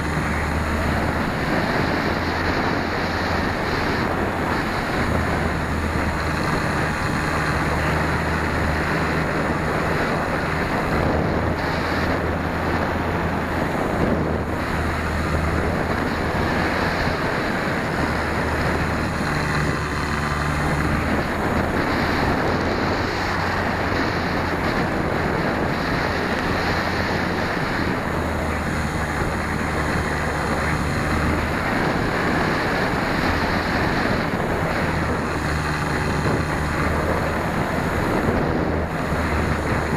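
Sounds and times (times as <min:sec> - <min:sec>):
electric motor and propeller: 0:00.0 - 0:39.9
low rumbles: 0:00.0 - 0:39.9
wind rushing over microphone: 0:00.0 - 0:39.9.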